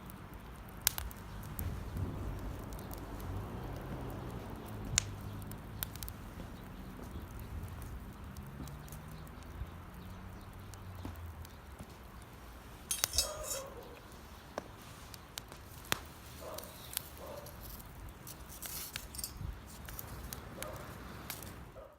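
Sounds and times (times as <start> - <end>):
campfire crackling and popping: 0.0 - 21.8.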